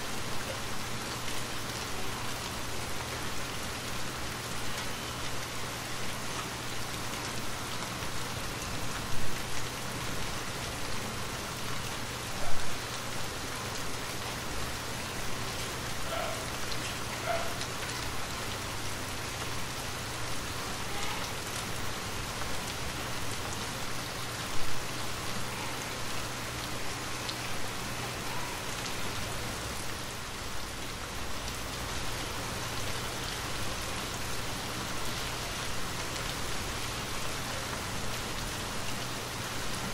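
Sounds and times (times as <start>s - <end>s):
steady rain on wet street: 0.0s - 39.9s.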